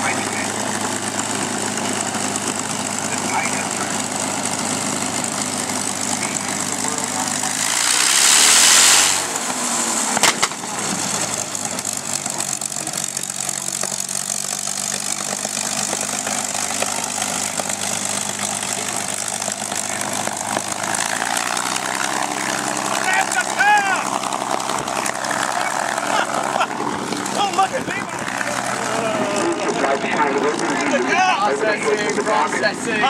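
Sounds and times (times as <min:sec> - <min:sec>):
loud rush of noise: 0:00.0 - 0:12.1, 0:15.0 - 0:31.5
aircraft engine idling: 0:00.0 - 0:33.0.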